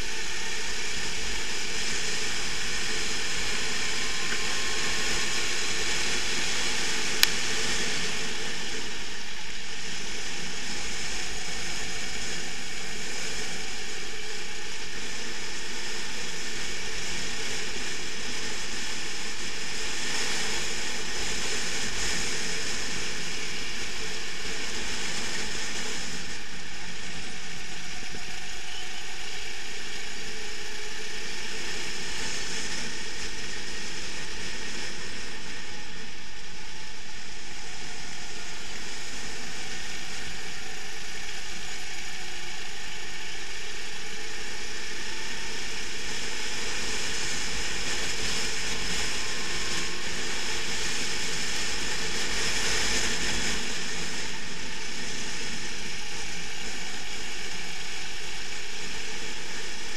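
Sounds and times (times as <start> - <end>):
go-kart engine racing: 0.0 - 59.9
wind noise on microphone: 0.0 - 59.9.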